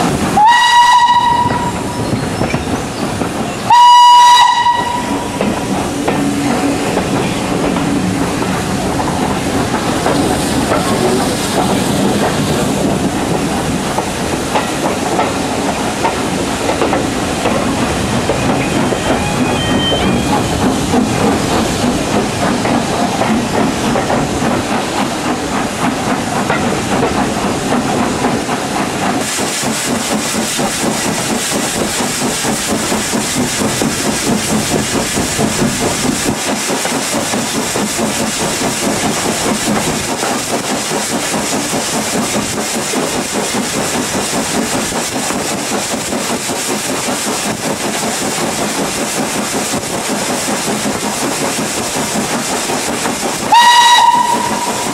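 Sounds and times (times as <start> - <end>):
steam hissing: 0.0 - 54.9
train wheels on rails: 0.0 - 54.9.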